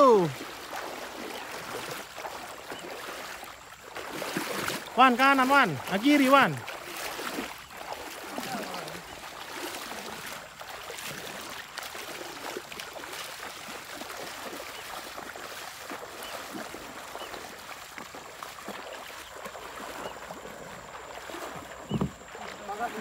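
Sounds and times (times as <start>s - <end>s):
feet splashing through water: 0.0s - 23.0s
moving water: 0.0s - 23.0s.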